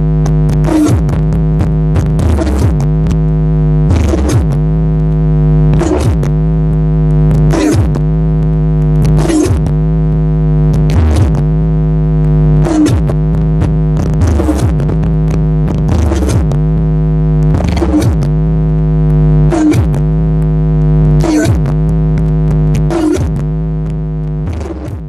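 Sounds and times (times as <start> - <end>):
deep bass drone: 0.0 - 25.0.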